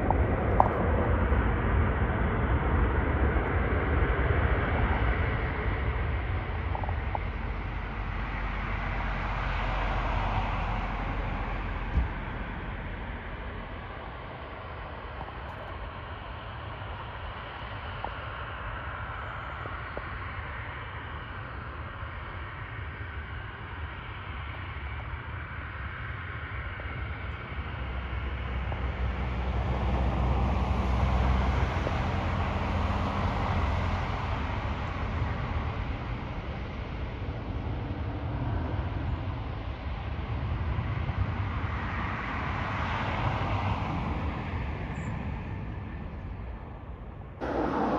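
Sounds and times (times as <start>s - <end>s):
aircraft engine rumble: 0.0s - 47.9s.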